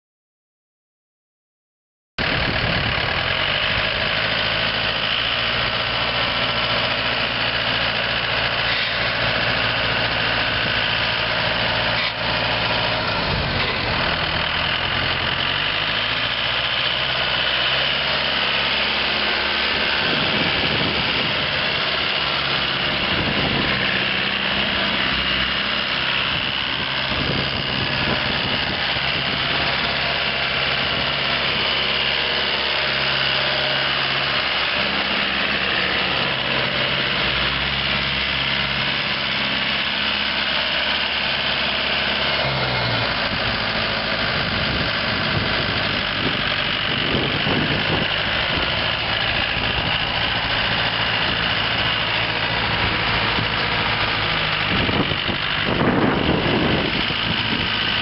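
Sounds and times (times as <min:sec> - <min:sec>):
tractor diesel engine idling: 0:02.2 - 0:58.0.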